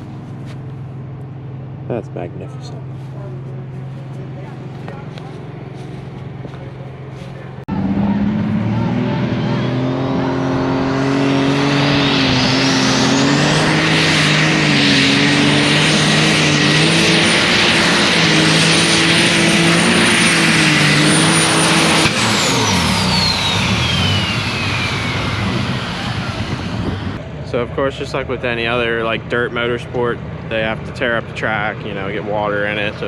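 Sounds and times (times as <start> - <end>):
tractor engine at high revs: 0.0 - 33.0
turbocharger whine: 0.0 - 33.0.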